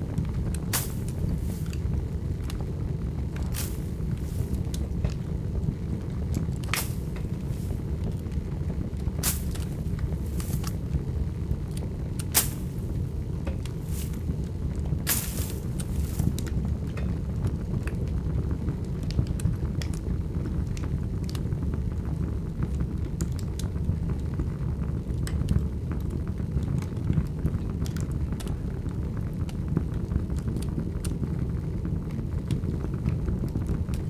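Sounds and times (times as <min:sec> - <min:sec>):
fire crackling and popping: 0:00.0 - 0:34.0
large fire rumbling: 0:00.0 - 0:34.0.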